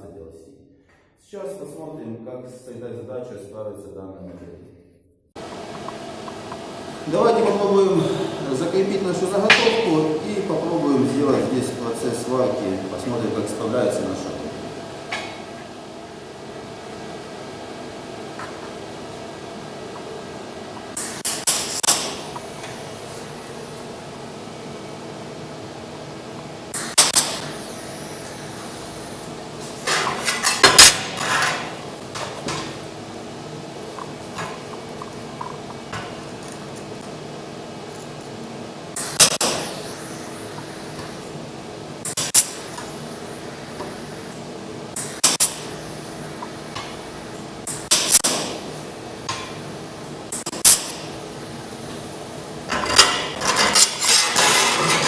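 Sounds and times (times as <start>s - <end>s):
steady fan hum: 5.4s - 55.0s.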